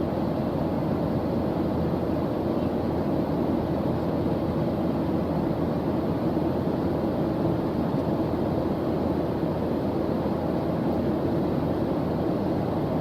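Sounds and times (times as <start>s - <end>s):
steady white noise: 0.0s - 13.0s.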